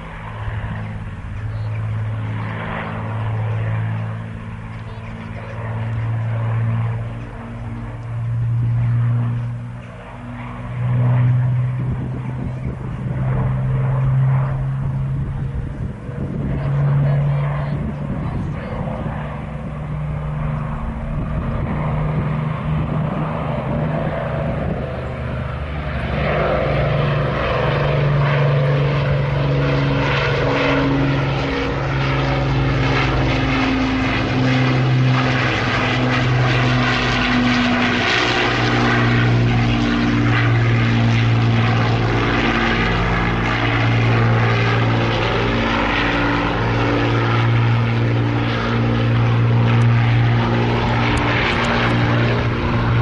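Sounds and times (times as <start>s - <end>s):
propeller aircraft engines overhead: 0.0s - 53.0s.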